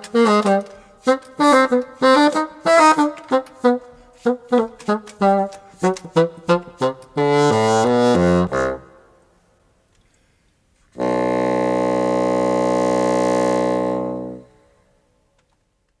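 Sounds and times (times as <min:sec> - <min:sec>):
bassoon notes: 0:00.0 - 0:09.1, 0:11.0 - 0:14.8.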